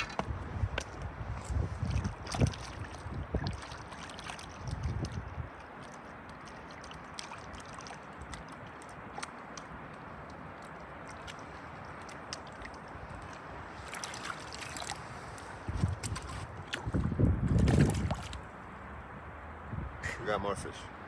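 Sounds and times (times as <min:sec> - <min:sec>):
water lapping against rocks: 0:00.0 - 0:18.5
water drips and splashes: 0:00.0 - 0:18.6.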